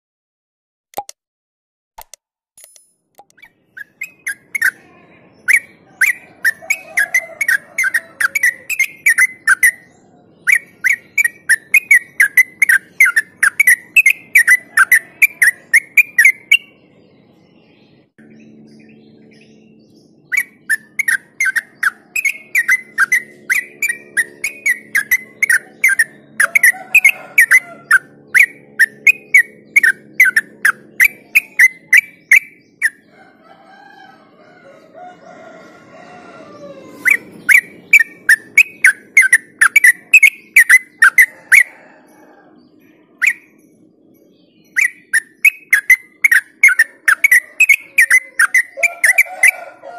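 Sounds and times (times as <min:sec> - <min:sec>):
bird chattering song: 0:03.2 - 0:35.0, 0:36.8 - 0:49.9.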